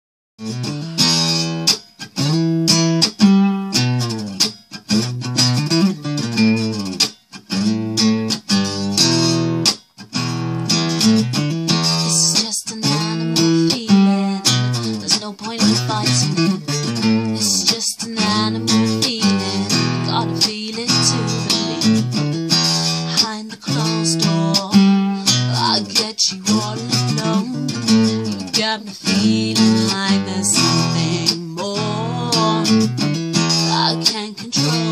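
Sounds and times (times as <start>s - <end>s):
acoustic guitar chords: 0.4s - 34.9s.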